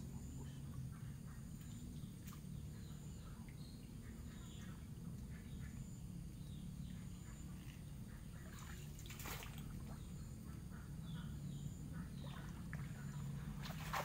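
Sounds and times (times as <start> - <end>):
bird and insect chirps: 0.0 - 14.0
low steady rumble: 0.0 - 14.0.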